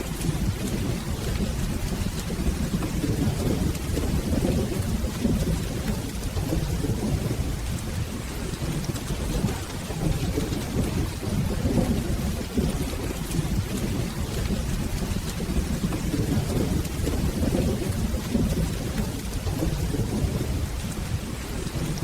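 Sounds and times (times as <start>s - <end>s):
rolling thunder rumble: 0.0s - 22.0s
steady rain: 0.0s - 22.0s.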